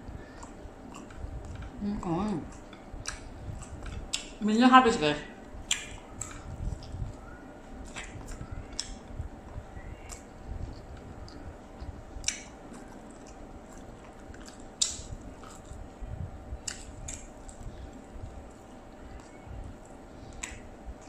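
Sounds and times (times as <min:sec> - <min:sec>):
wet chewing of noodles: 0:00.0 - 0:04.4, 0:05.6 - 0:21.0.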